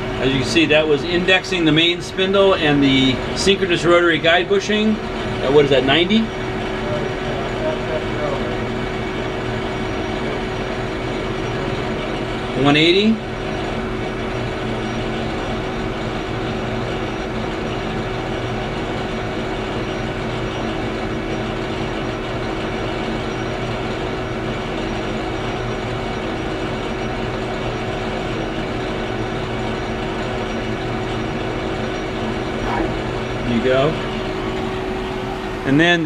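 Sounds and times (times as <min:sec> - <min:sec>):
lathe machine hum: 0:00.0 - 0:36.0.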